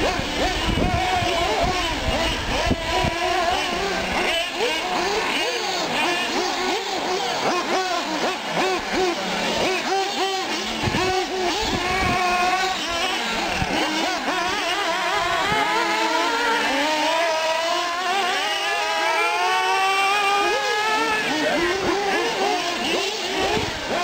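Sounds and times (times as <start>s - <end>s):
small model engines whining: 0.0s - 24.0s.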